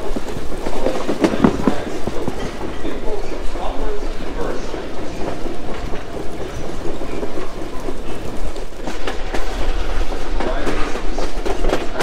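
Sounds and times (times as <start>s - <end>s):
train coach rolling on rails: 0.0s - 12.0s
wheels clacking over rail joints: 0.0s - 12.0s.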